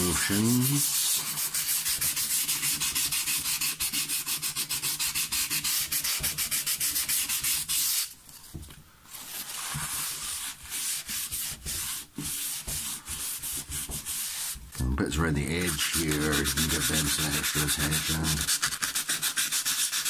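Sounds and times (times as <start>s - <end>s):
sandpaper rubbing on metal: 0.0s - 8.1s, 9.4s - 14.6s, 15.6s - 20.0s.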